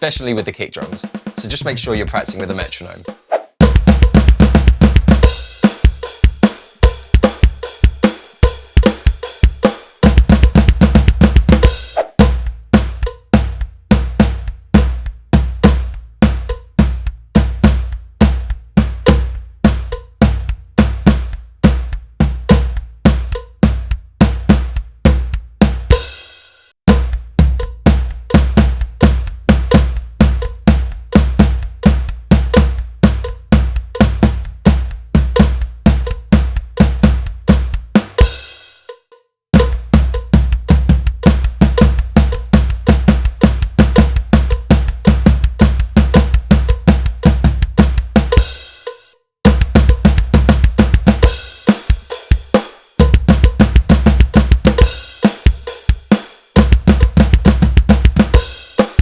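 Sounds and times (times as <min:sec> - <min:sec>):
drum kit playing a groove: 0:00.0 - 0:59.0.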